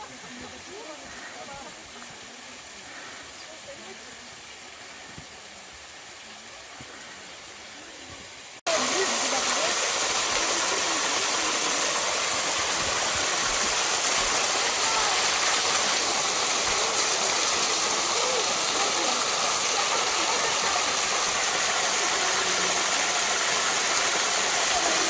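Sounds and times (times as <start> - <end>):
small waterfall rushing: 0.0 - 25.0.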